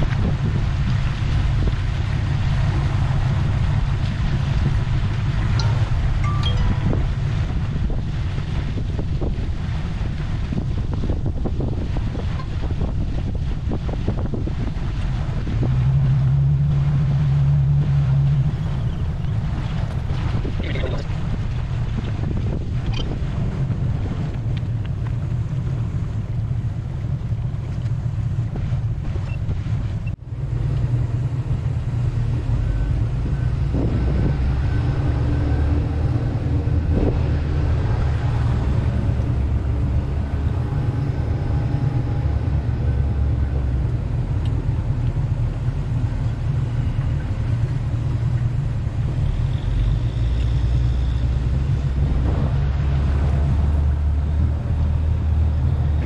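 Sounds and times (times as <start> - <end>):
boat engine droning: 0.0 - 56.0
wind on microphone: 0.0 - 56.0.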